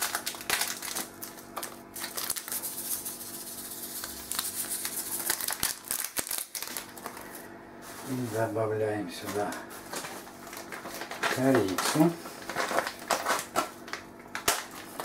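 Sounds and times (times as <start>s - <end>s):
sachet crinkling and rustling: 0.0s - 8.6s, 9.2s - 15.0s
steady low hum: 0.0s - 15.0s.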